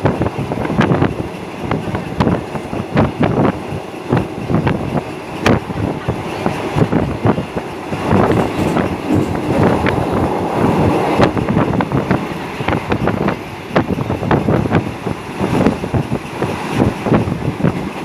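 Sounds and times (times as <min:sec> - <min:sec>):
train rumbling: 0:00.0 - 0:18.0
train wheels clattering on track: 0:00.0 - 0:18.0.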